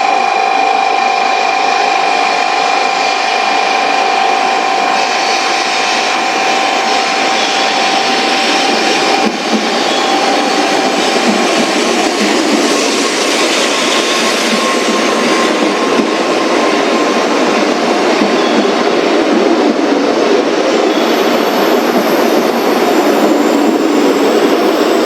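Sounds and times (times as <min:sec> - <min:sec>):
steady high tone: 0:00.0 - 0:25.0
train pulling into platform: 0:00.0 - 0:25.0.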